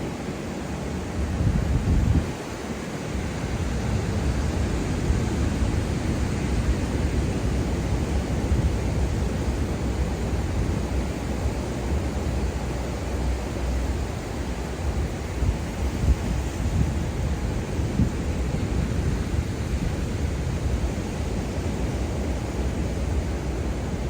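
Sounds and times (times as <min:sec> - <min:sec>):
wind buffeting microphone: 0:00.8 - 0:24.0.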